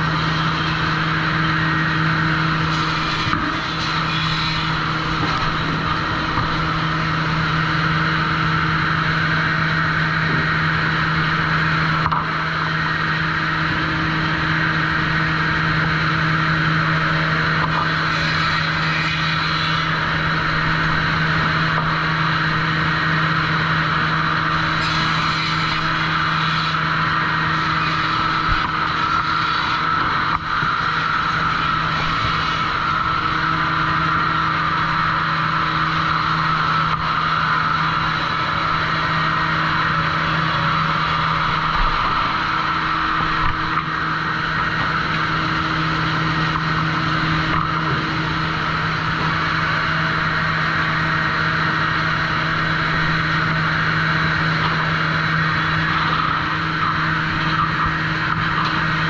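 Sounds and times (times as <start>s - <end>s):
loud even whir: 0.0s - 59.0s
low machinery hum: 0.0s - 59.0s.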